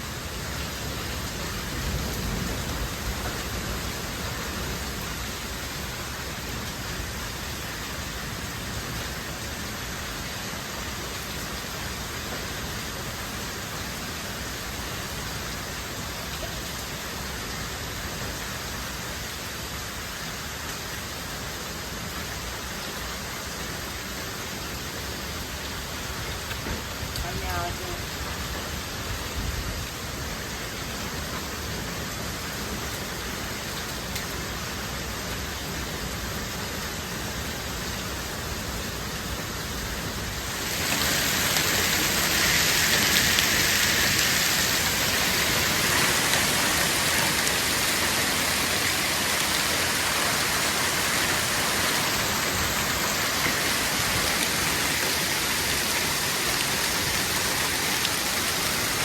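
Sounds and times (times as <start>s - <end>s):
hail and rain pelting down: 0.0s - 59.0s.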